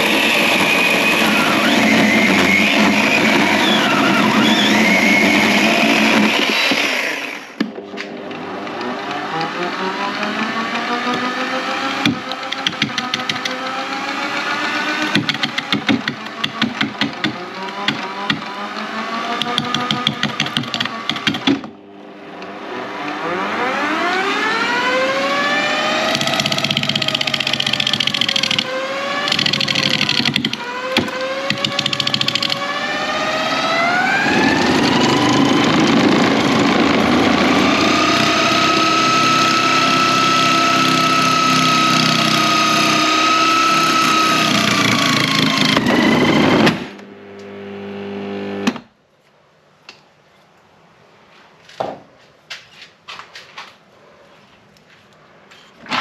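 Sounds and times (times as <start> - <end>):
wood lathe motor whine: 0.0 - 48.7.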